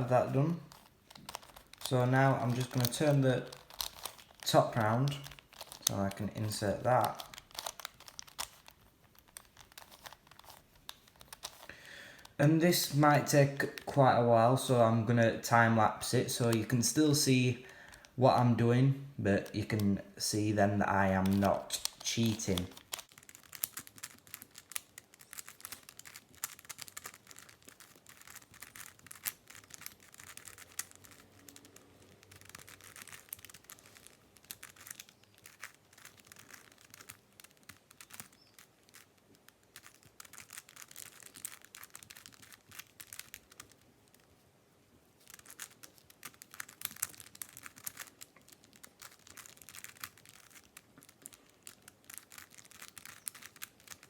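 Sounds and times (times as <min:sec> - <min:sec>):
twisty puzzle clicking: 0:00.0 - 0:13.9, 0:20.8 - 0:44.4, 0:45.2 - 0:54.0.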